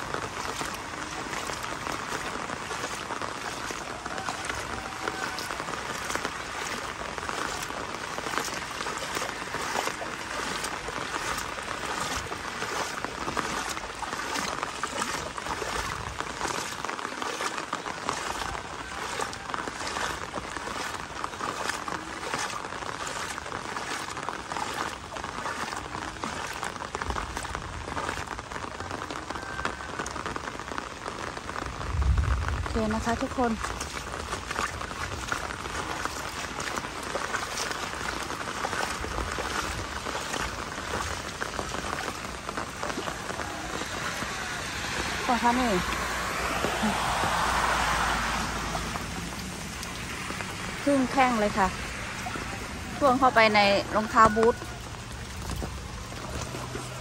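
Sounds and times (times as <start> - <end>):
footsteps splashing through water: 0.0 - 57.0
steady rain falling: 0.0 - 57.0.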